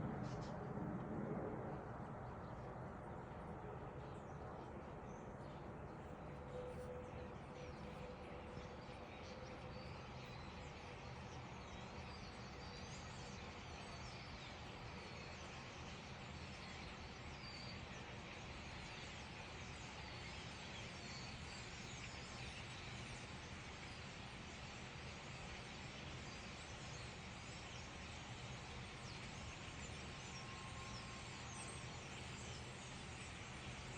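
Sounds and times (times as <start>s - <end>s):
flock of birds chirping: 0.0s - 0.8s, 1.7s - 33.9s
steady background hiss: 4.5s - 33.9s.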